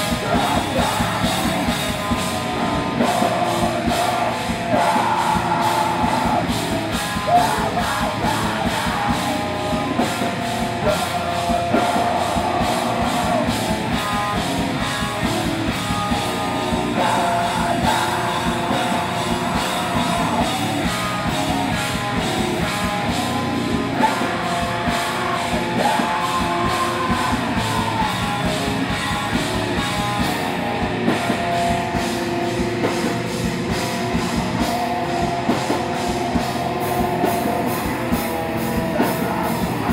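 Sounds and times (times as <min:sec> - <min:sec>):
person singing into microphone: 0:00.0 - 0:31.8, 0:36.0 - 0:39.9
bass guitar: 0:00.0 - 0:39.9
distorted electric guitars: 0:00.0 - 0:39.9
fast drumming: 0:00.0 - 0:39.9.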